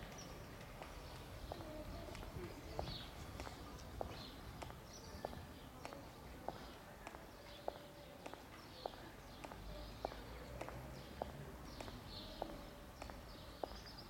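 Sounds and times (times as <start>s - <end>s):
footsteps on stone path: 0.0s - 14.0s
small birds chirping: 0.0s - 14.0s.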